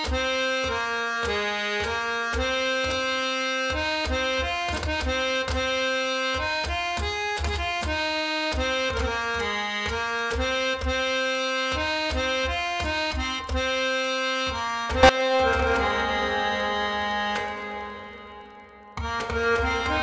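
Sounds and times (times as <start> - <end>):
harmonium melody: 0.0 - 20.0.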